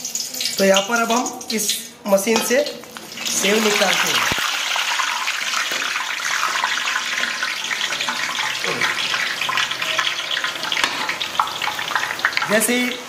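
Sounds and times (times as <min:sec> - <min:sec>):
dough sizzling in hot oil: 0:00.0 - 0:01.9, 0:02.7 - 0:13.0.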